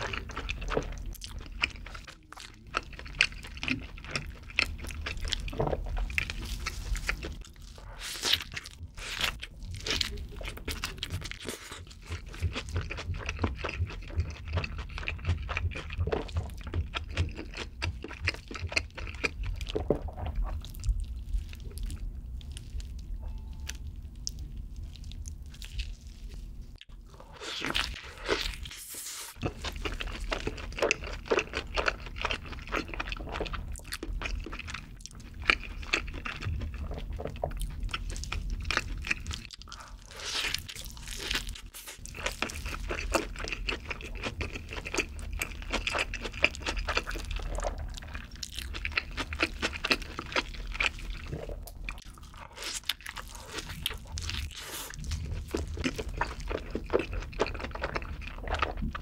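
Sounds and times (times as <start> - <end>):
biting and chewing burger: 0.0 - 59.0.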